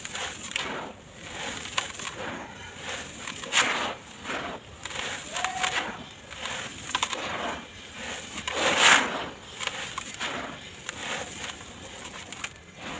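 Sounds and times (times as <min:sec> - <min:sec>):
blocks crushing and crumbling: 0:00.0 - 0:12.9.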